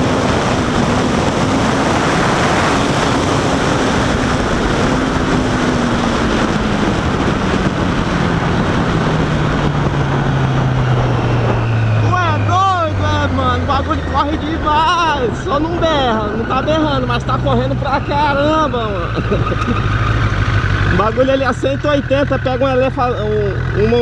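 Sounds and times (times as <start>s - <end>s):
wind rush on microphone: 0.0s - 24.0s.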